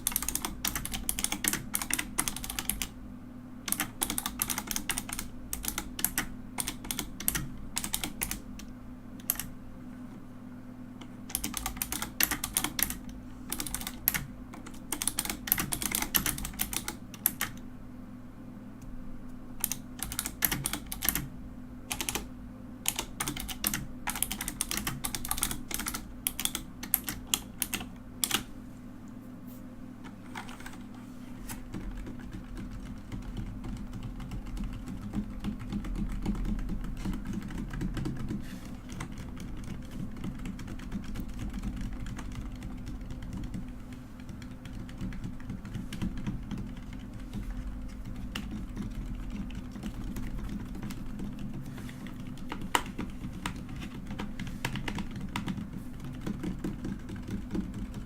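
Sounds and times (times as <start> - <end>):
mechanical keyboard keys clacking: 0.0 - 2.9, 3.7 - 9.5, 11.3 - 17.6, 19.6 - 21.3, 21.9 - 22.3, 22.9 - 28.5, 31.5 - 58.0
steady low hum: 0.0 - 58.0.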